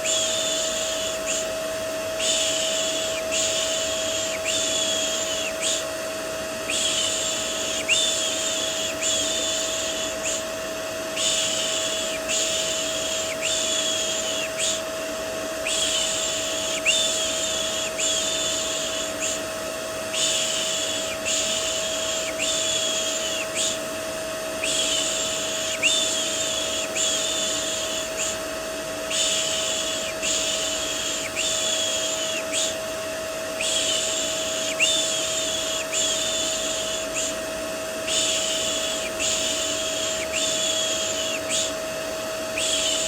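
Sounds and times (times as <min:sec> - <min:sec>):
vacuum cleaner motor whine: 0:00.0 - 0:43.0.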